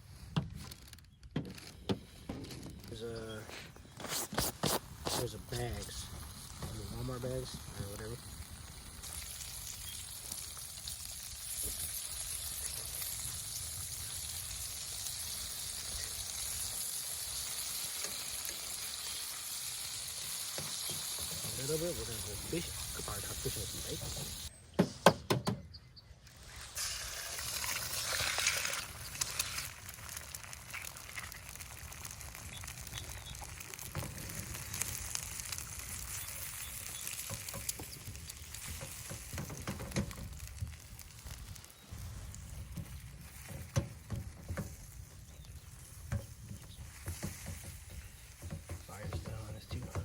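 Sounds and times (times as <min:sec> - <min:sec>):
food sizzling in a pan: 0:04.4 - 0:24.5, 0:26.6 - 0:49.9.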